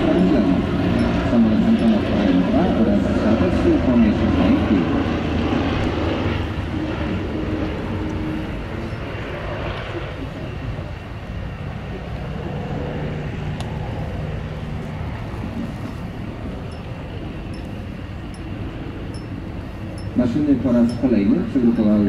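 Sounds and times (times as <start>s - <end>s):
propeller planes flying past: 0.0s - 22.0s.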